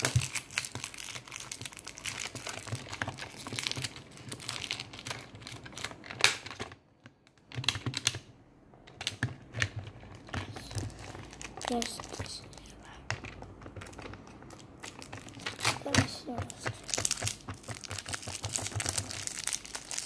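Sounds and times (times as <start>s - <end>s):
plastic clicks and rattles: 0.0s - 20.0s.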